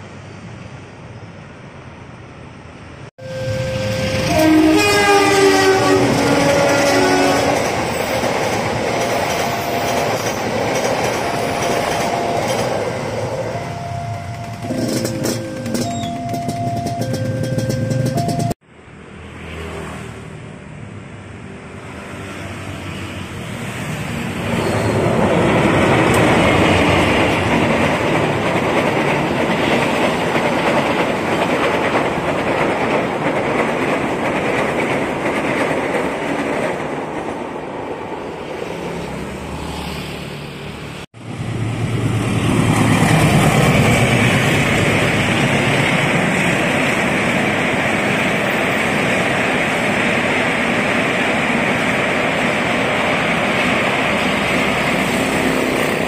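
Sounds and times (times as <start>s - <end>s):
train wheels rumbling on rails: 3.5s - 18.6s, 23.5s - 39.6s, 41.1s - 56.0s.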